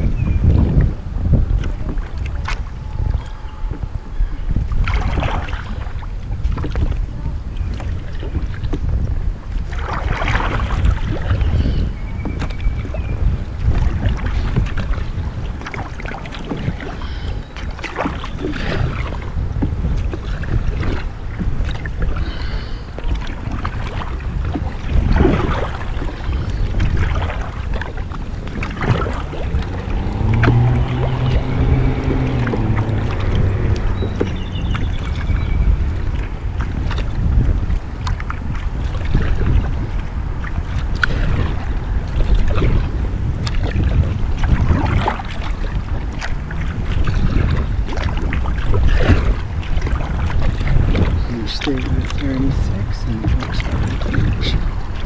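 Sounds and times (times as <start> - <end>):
paddle splashing in water: 0.0 - 55.0
wind rumble on microphone: 0.0 - 55.0.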